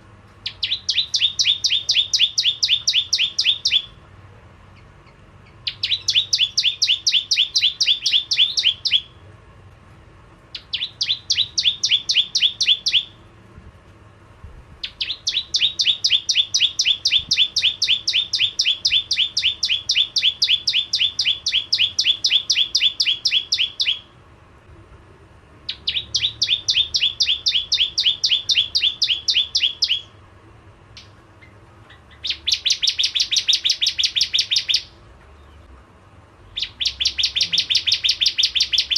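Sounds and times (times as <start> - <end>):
bird singing rapid high chirps: 0.4 - 4.0, 4.7 - 9.2, 10.5 - 13.2, 14.8 - 24.1, 25.6 - 30.2, 30.9 - 35.7, 36.5 - 38.9.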